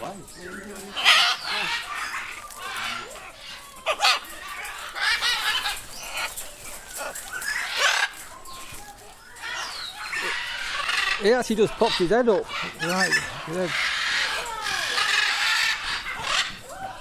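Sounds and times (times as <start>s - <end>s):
parrots squawking: 0.0s - 8.7s, 9.4s - 16.7s.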